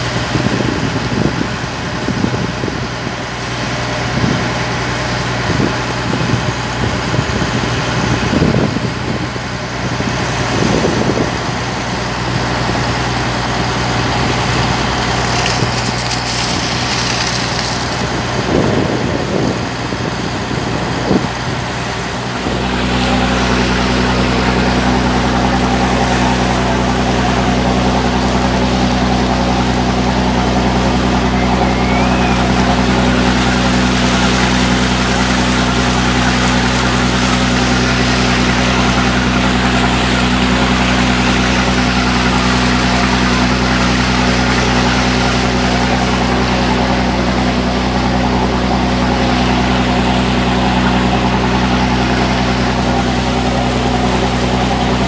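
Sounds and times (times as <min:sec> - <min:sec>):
motorboat engine drone: 0:00.0 - 0:55.0
water and wind hiss: 0:00.0 - 0:55.0.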